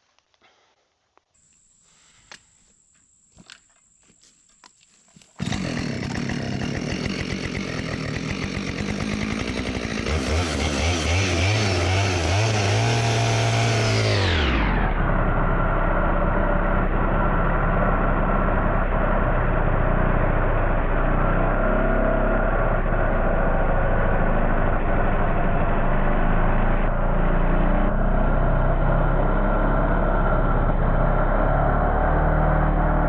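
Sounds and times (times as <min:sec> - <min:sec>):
small petrol engine running: 0:05.4 - 0:33.0.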